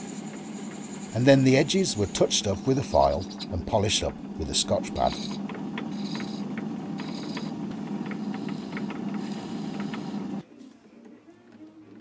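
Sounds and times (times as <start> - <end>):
file scraping spinning metal: 0.0 - 10.4
lathe running: 0.0 - 10.4.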